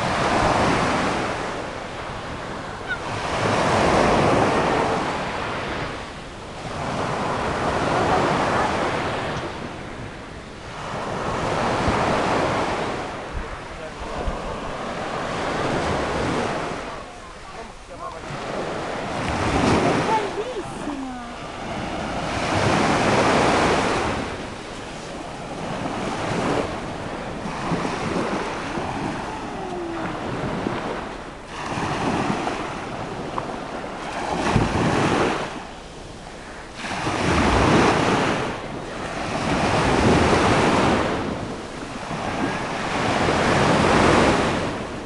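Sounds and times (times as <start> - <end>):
small waves breaking on sand: 0.0 - 45.0
wind buffeting microphone: 0.0 - 45.0.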